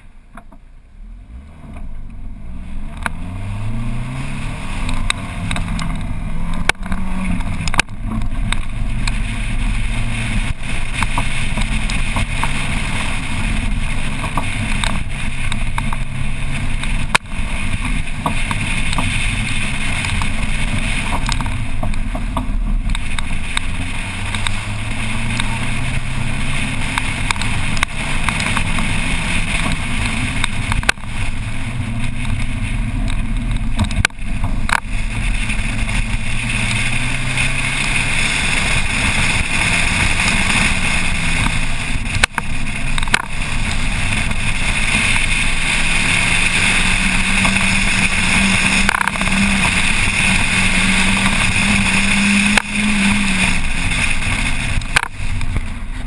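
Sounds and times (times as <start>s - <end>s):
car engine accelerating: 0.0s - 56.0s
wind rushing over microphone: 2.3s - 56.0s.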